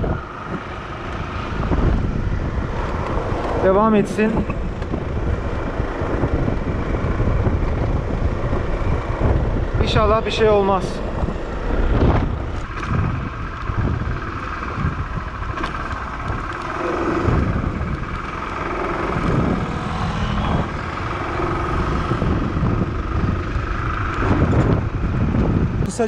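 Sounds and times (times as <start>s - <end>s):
motorcycle engine running: 0.0s - 25.9s
wind and road noise: 0.0s - 26.0s.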